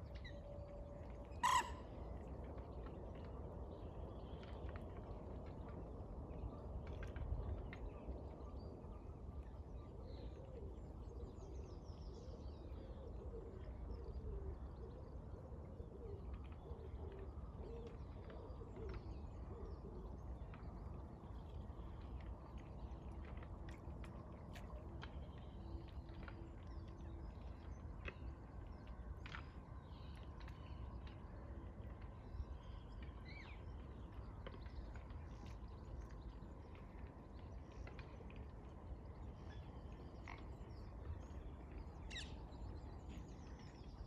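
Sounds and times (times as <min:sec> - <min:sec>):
soft low bird calls: 0:00.0 - 0:05.0, 0:06.4 - 0:44.0
steady low rumble: 0:00.0 - 0:44.0.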